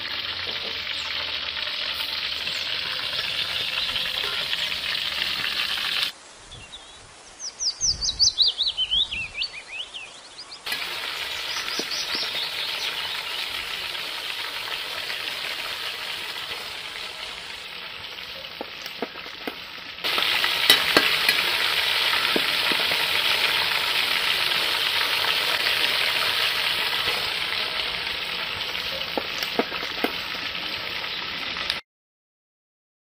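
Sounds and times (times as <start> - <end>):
deep-frying sizzle in hot oil: 0.0 - 6.2, 10.6 - 31.8.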